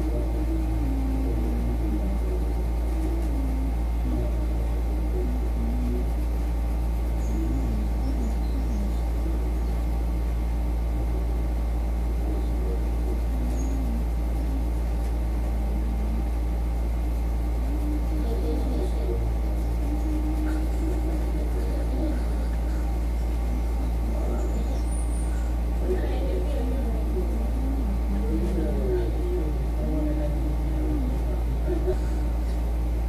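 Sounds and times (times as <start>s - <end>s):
faint background voices: 0.0s - 33.0s
steady low hum: 0.0s - 33.0s.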